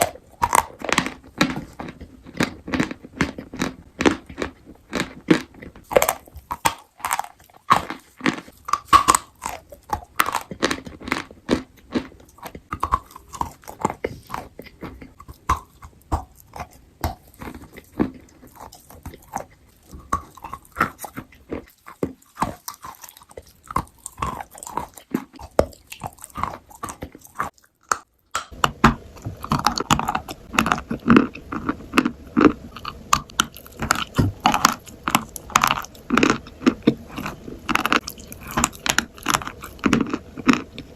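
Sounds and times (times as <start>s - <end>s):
crunchy food chewing: 0.0s - 40.9s.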